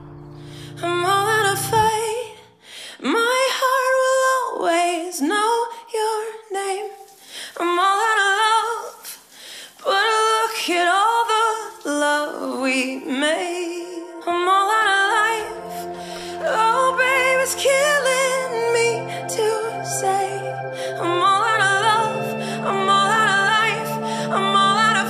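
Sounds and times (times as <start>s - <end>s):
woman singing: 0.8s - 9.2s, 9.8s - 25.0s.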